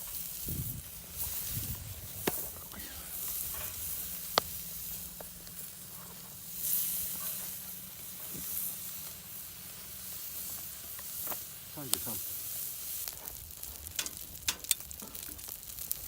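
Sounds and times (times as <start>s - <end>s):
fire sharp pops: 0.0s - 16.0s
food sizzling over campfire: 0.0s - 16.0s.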